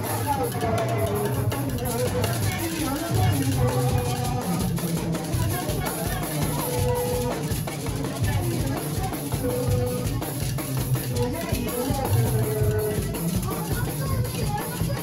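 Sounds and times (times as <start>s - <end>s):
drums: 0.0s - 15.0s
gourd shaker: 0.0s - 15.0s.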